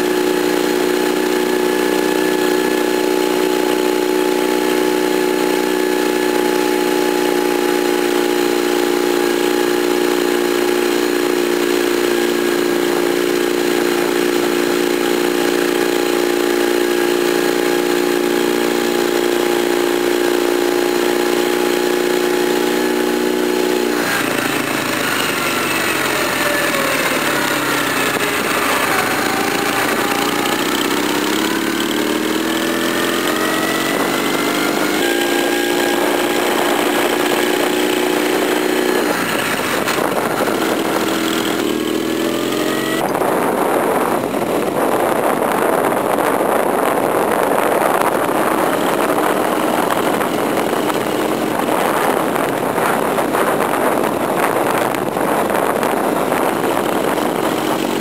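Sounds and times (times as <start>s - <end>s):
motorcycle engine running: 0.0s - 58.0s
wind rushing over microphone: 10.7s - 58.0s.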